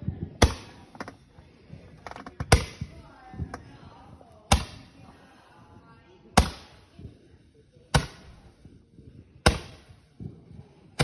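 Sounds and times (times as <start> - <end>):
fireworks bangs: 0.0 - 5.8, 6.4 - 10.9.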